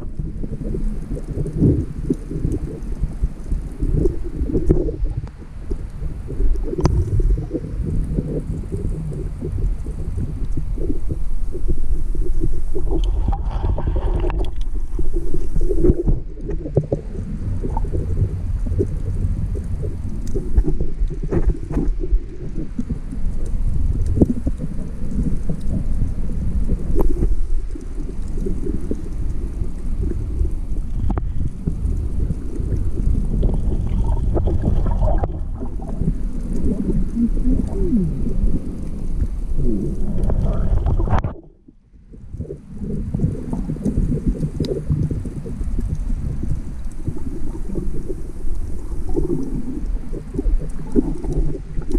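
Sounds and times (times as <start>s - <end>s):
hissing water swirl: 0.0s - 51.9s
underwater clicks and crackles: 0.0s - 51.9s
underwater water rumble: 0.0s - 51.9s.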